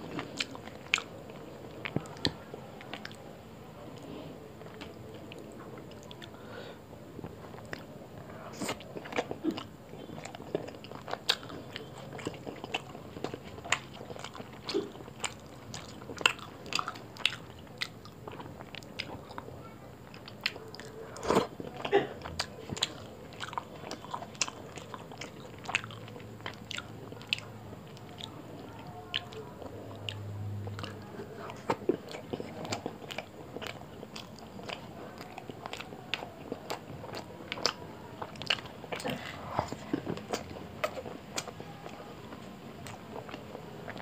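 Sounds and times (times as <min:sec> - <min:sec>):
mouth chewing with wet clicks: 0:00.1 - 0:03.3, 0:03.9 - 0:06.4, 0:07.2 - 0:44.0.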